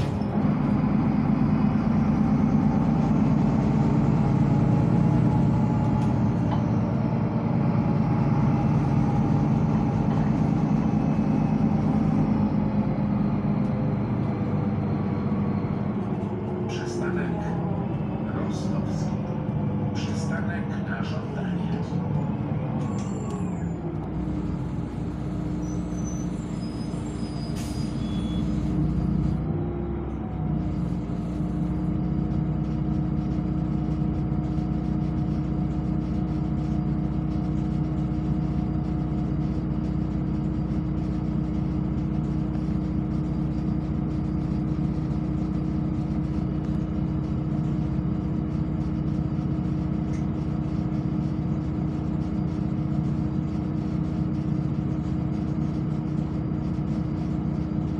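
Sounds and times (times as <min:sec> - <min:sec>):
bus engine and road noise: 0:00.0 - 0:57.9.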